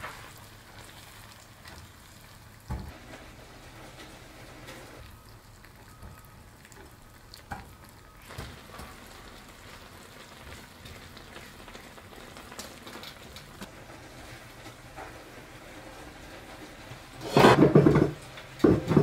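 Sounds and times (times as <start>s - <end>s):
meat sizzling and bubbling in pan: 0.0s - 19.0s.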